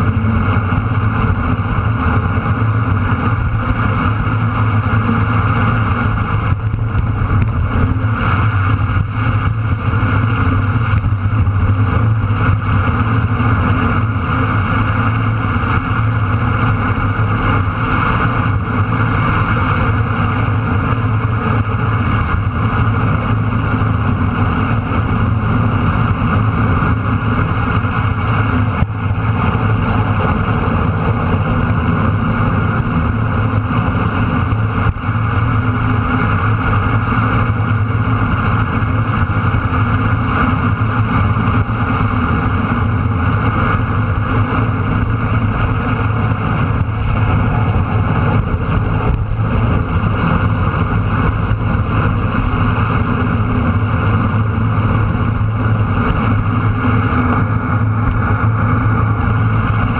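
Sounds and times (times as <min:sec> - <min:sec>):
motorcycle engine cruising: 0:00.0 - 0:59.9
wind rushing: 0:00.0 - 0:59.9.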